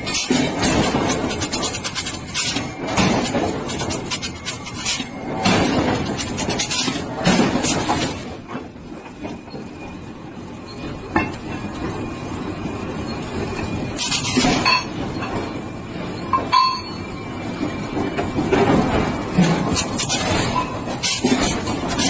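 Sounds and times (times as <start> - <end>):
steady mechanical noise: 0.0 - 22.0.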